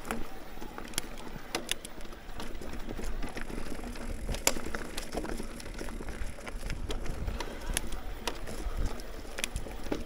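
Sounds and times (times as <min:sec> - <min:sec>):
bike rattling over bumps: 0:00.0 - 0:10.0
bike tyres on dirt trail: 0:00.0 - 0:10.0.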